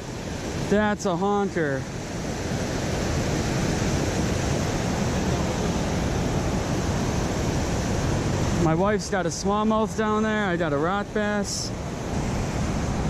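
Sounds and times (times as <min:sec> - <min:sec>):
water rushing over spillway: 0:00.0 - 0:13.0.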